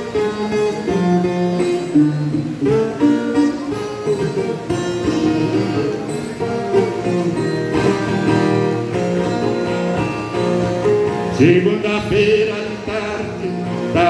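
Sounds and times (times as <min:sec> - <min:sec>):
person singing: 0:00.0 - 0:09.7, 0:11.0 - 0:14.0
folk guitar plucked and strummed: 0:00.0 - 0:14.0.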